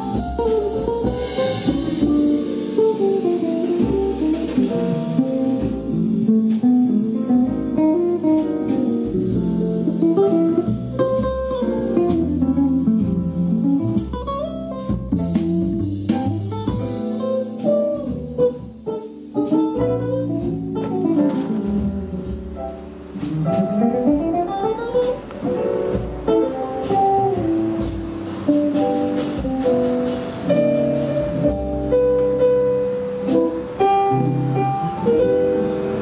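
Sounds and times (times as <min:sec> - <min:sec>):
guitar music through amplifier: 0:00.0 - 0:36.0.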